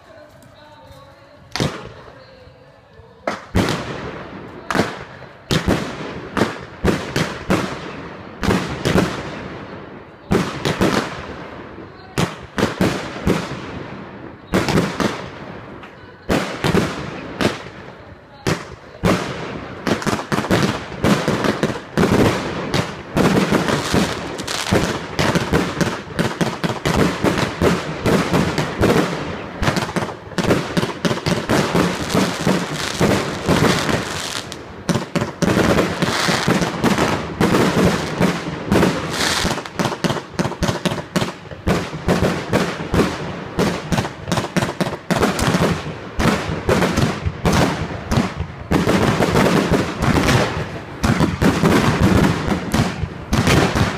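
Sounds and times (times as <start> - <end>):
fireworks launching and bursting: 0.0 - 53.9.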